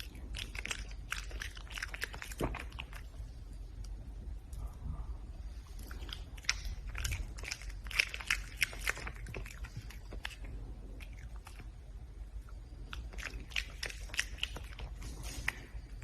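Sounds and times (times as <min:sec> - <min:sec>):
animal crunching food: 0:00.0 - 0:04.6, 0:05.6 - 0:16.0.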